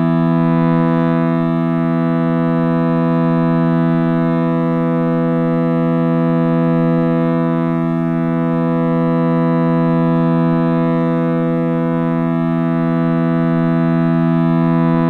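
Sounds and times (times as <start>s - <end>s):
meditative drone music: 0.0s - 15.0s.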